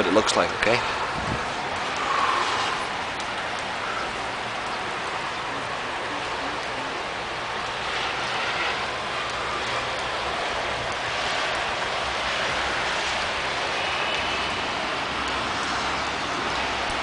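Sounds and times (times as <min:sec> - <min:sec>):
traffic on wet streets: 0:00.0 - 0:17.0
tyres swishing on wet road: 0:00.0 - 0:17.0.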